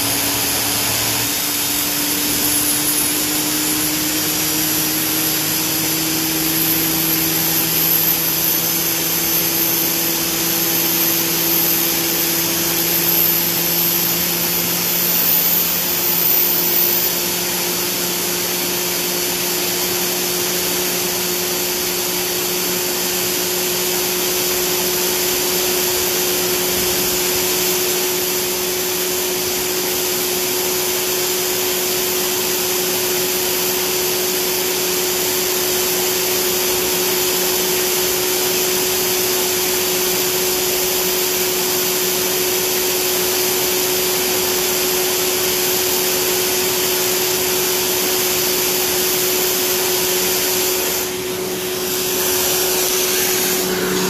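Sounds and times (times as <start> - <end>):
helicopter turbine engine running: 0.0 - 54.0.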